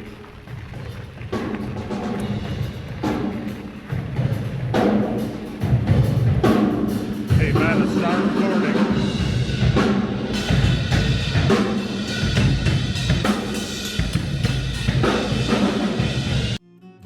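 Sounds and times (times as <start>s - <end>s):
music with drum kit beat: 0.0s - 16.6s.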